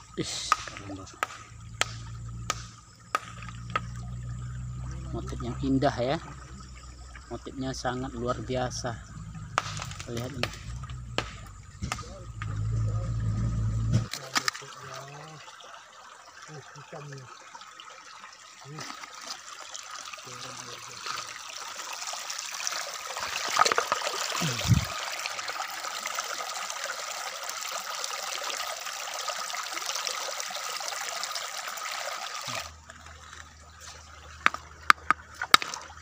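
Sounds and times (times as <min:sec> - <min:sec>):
river water running over stones: 0:00.0 - 0:36.0.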